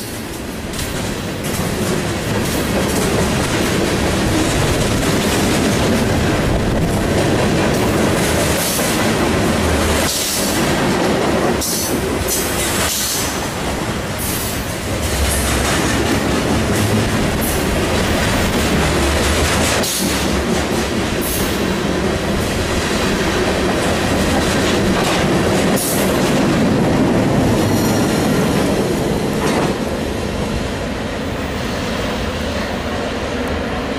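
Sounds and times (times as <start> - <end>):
train wheels rumbling on rail: 0.0 - 33.9
clacks over rail joints: 0.3 - 29.9.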